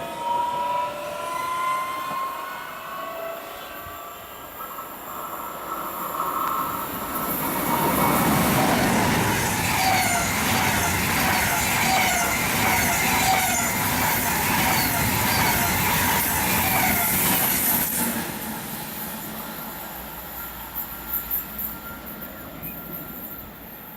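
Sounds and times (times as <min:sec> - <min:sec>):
train passing: 0:00.0 - 0:23.9.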